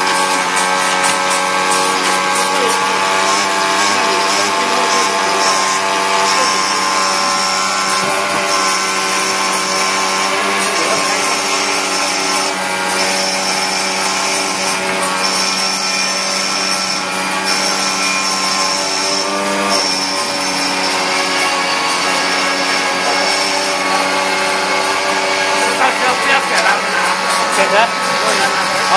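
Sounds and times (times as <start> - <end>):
machine motors humming and whining: 0.0 - 28.9.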